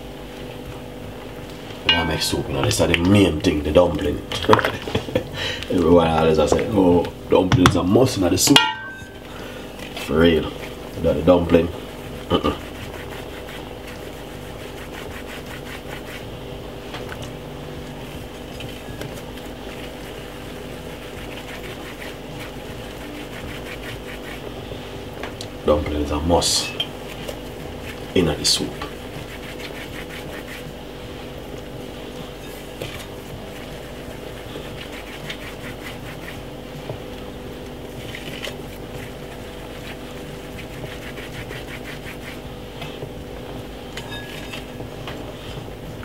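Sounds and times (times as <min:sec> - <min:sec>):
hands working dough: 0:00.0 - 0:46.0
steady mechanical hum: 0:00.0 - 0:46.0.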